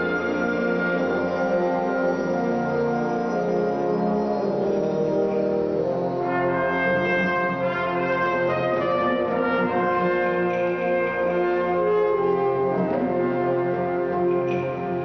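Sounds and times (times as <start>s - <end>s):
wind band playing: 0.0s - 15.0s.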